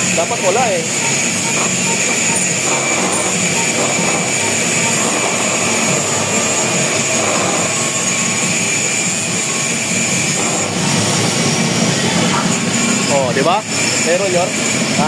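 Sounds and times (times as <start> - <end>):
machinery whining: 0.0 - 15.0.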